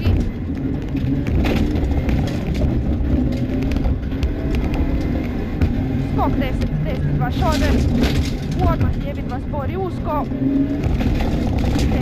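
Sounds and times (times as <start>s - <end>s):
car engine under load: 0.0s - 12.0s
tyre and road noise: 0.0s - 12.0s.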